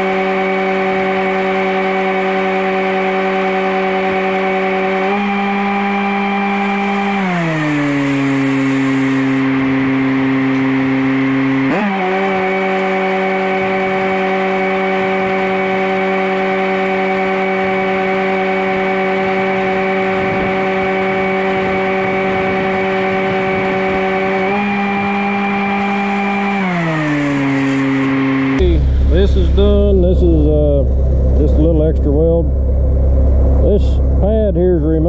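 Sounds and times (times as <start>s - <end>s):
welder engine revving and idling: 0.0s - 35.0s.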